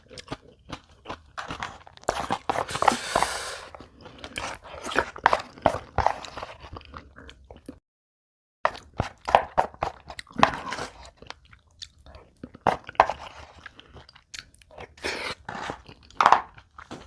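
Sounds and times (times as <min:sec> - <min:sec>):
chewing and crunching food: 0:00.0 - 0:07.8, 0:08.7 - 0:17.0.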